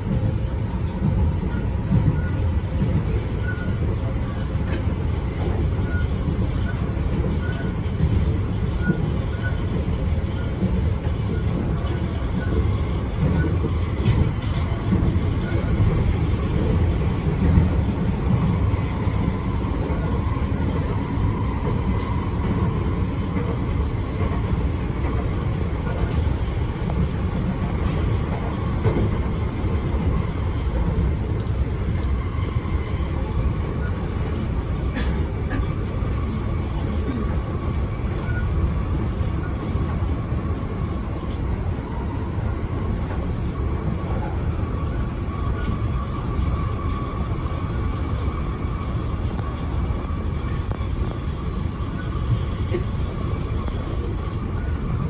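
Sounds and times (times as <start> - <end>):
metro car rumble: 0.0 - 55.0.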